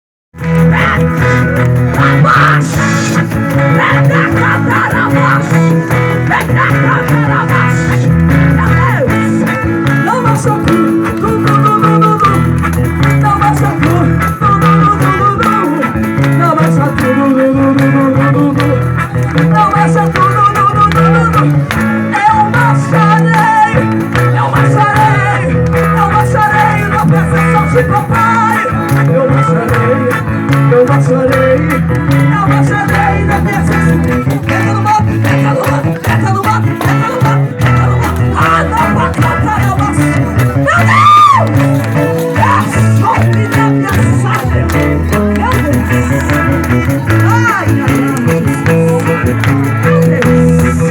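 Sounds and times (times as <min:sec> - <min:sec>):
loud music with guitar and bass: 0:00.3 - 0:50.9
person singing: 0:00.4 - 0:50.9.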